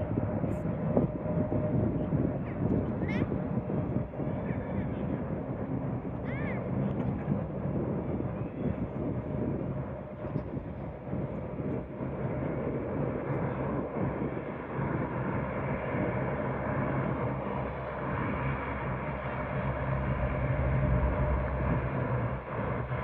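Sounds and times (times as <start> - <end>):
airplane engine noise: 0.0 - 23.0.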